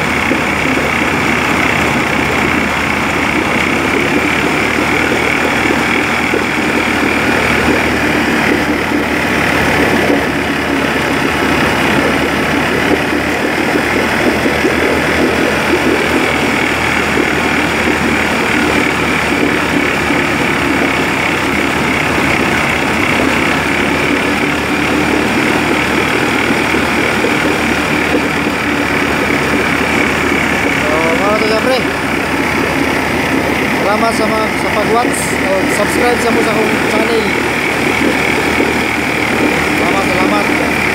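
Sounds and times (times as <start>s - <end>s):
outboard motor running: 0.0s - 40.9s
propeller churning water: 0.0s - 40.9s.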